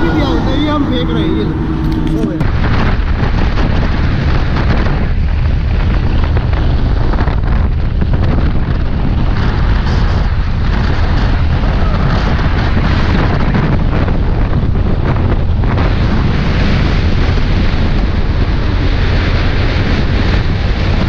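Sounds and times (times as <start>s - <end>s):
motorcycle engine rumble: 0.0s - 21.0s
wind buffeting microphone: 0.0s - 21.0s.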